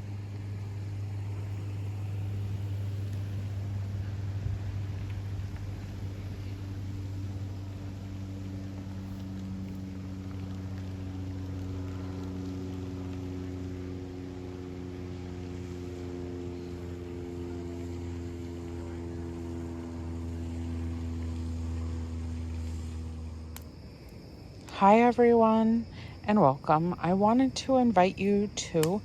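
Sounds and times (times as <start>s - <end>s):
motorboat engine running: 0.0s - 23.5s.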